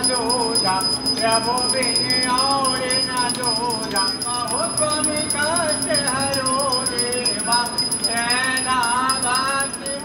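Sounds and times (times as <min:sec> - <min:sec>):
brass hand bell ringing rapidly: 0:00.0 - 0:10.0
devotional song singing: 0:00.0 - 0:10.0.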